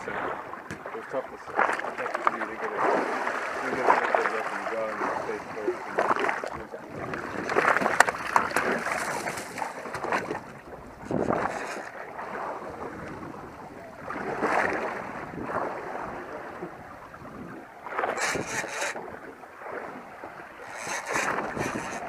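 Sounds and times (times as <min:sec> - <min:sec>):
water slapping against boat hull: 0:00.0 - 0:22.0
wind on microphone: 0:00.0 - 0:22.0.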